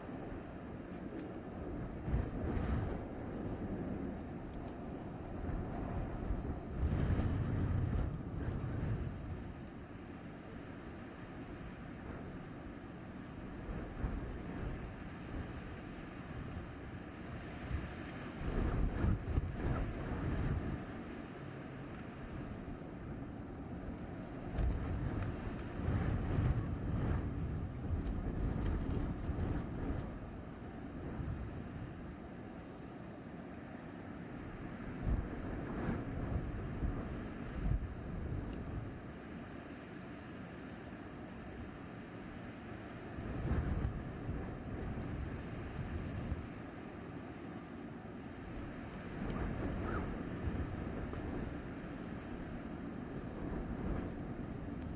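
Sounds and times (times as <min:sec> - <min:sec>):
gusting blizzard wind: 0:00.0 - 0:54.9.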